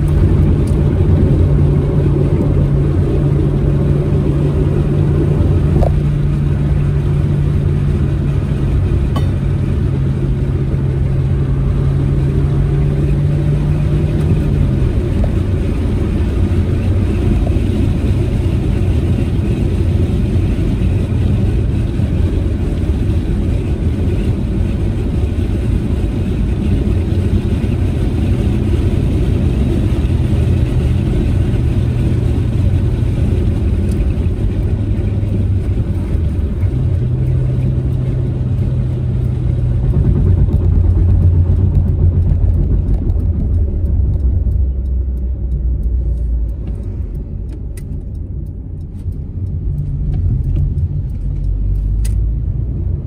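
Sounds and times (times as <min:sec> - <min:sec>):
car engine droning: 0:00.0 - 0:53.0
tyre and road noise: 0:00.0 - 0:53.0.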